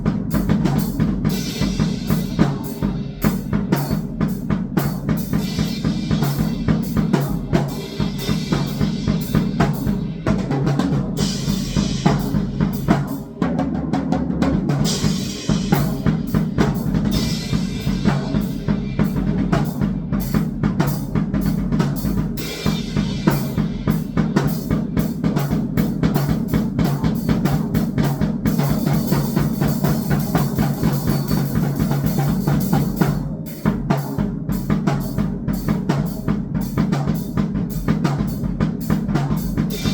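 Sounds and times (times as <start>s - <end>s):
fast drum-kit drumming: 0.0s - 39.9s.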